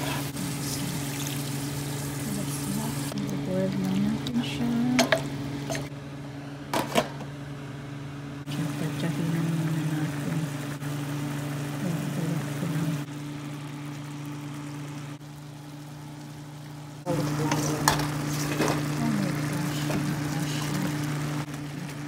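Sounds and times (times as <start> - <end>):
food sizzling and bubbling in a pot: 0.0 - 6.0, 8.4 - 22.0.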